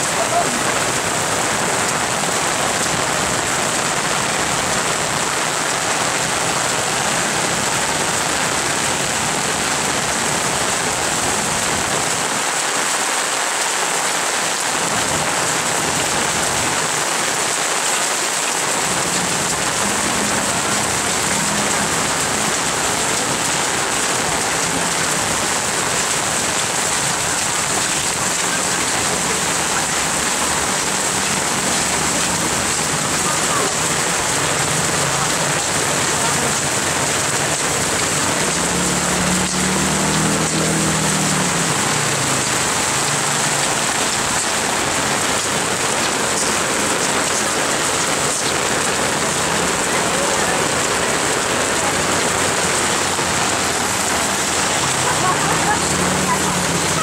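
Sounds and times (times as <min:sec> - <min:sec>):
heavy rain on wet road: 0:00.0 - 0:57.0.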